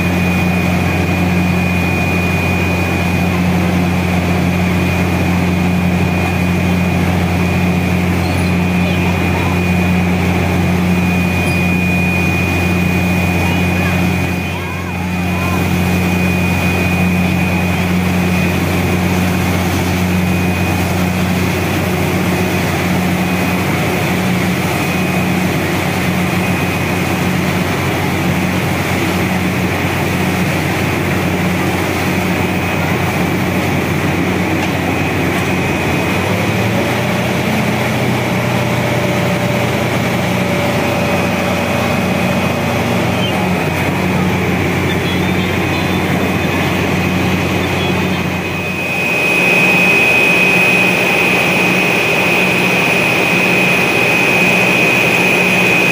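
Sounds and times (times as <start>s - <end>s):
drilling rig engine drone: 0.0s - 55.9s
high whine: 0.0s - 55.9s.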